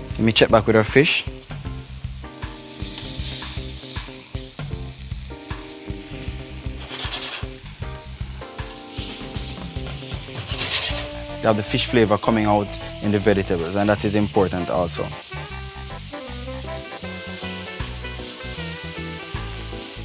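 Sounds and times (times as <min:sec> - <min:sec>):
background music: 0:00.0 - 0:20.0
fish fillets sizzling in oil: 0:00.0 - 0:20.0.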